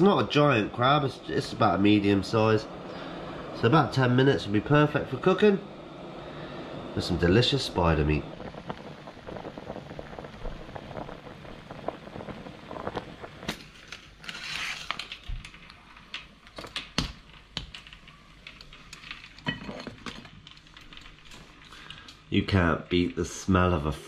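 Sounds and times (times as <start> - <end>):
water boiling hard in pot: 0.0 - 24.0.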